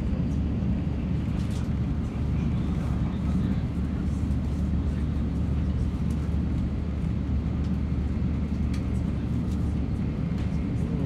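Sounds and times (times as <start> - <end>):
train rumble inside cabin: 0.0 - 11.0.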